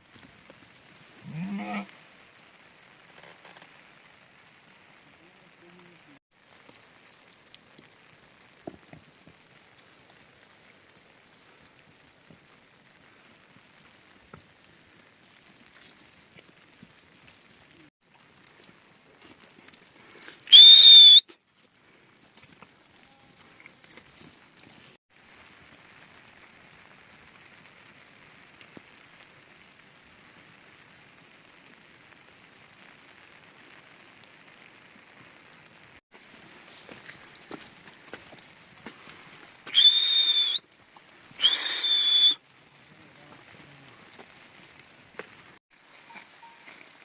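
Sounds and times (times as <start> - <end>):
faint steady rain: 0.0 - 47.0
raindrops ticking on surfaces: 0.0 - 47.0.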